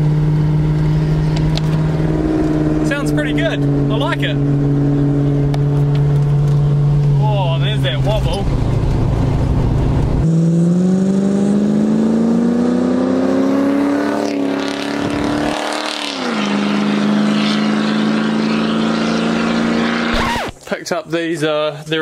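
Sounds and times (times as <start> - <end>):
car engine accelerating: 0.0 - 20.6.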